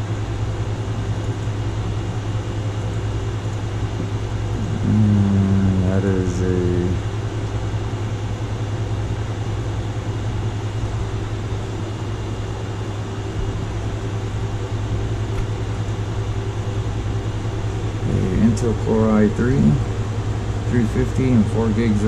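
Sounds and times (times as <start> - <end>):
mechanical whir with hum: 0.0 - 22.0.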